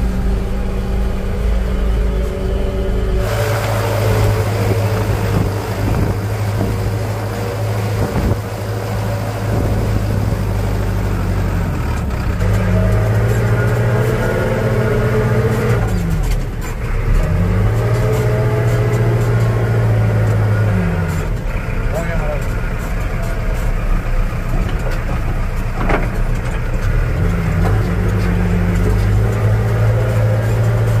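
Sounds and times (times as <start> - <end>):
heavy diesel engine running hard: 0.0 - 31.0.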